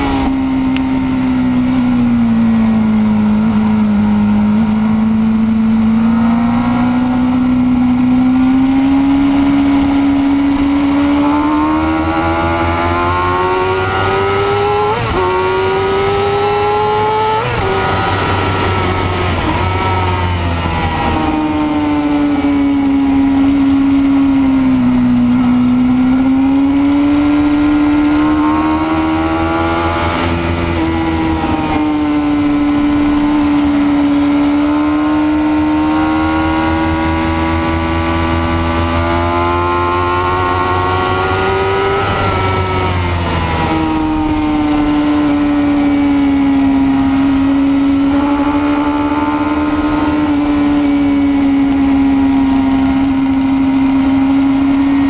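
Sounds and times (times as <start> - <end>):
racing motorcycle engine revving: 0.0 - 55.0.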